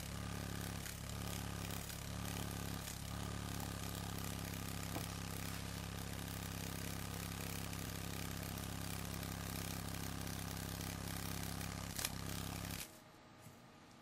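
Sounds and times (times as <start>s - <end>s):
beetle wings buzzing: 0.0s - 12.9s.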